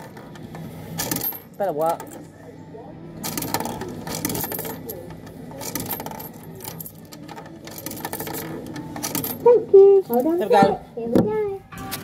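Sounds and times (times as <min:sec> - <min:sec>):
coins clinking into coin slot: 0:00.0 - 0:02.3, 0:03.2 - 0:10.8.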